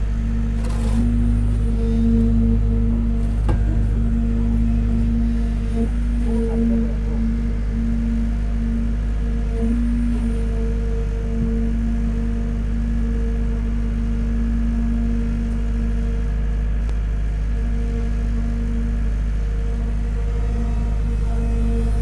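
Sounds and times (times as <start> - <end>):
construction machinery engine drone: 0.0 - 22.0.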